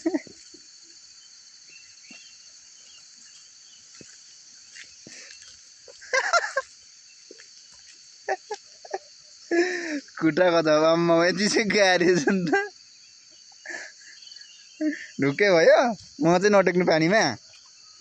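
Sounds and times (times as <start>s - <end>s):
insect chorus chirring: 0.0s - 18.0s.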